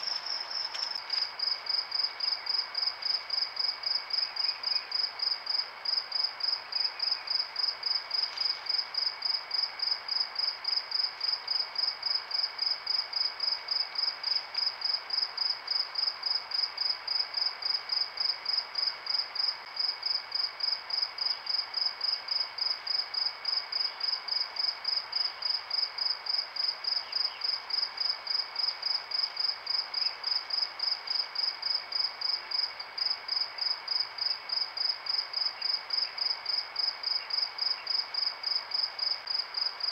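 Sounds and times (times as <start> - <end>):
cricket chirping: 0.0 - 39.9
faint steady hiss: 0.0 - 39.9.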